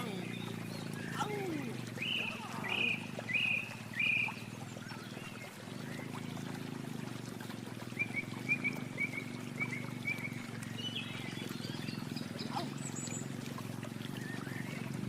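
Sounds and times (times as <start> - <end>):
low pulsing hum: 0.0 - 15.0.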